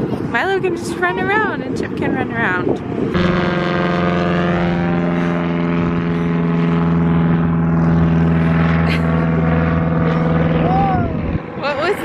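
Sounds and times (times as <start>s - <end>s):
airplane engine drone: 0.0s - 12.0s.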